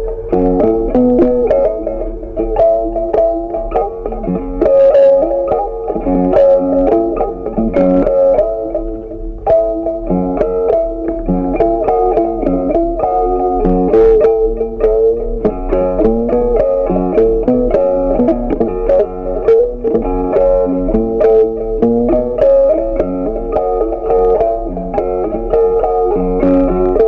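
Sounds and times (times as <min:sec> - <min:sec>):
guitar playing plucked melody: 0:00.0 - 0:27.0.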